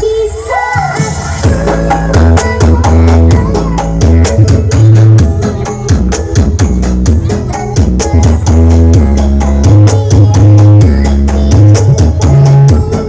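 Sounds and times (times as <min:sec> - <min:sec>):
band music over loudspeakers: 0:00.0 - 0:13.0
drum and percussion beat: 0:01.0 - 0:13.0
heavy bass line: 0:01.4 - 0:13.0.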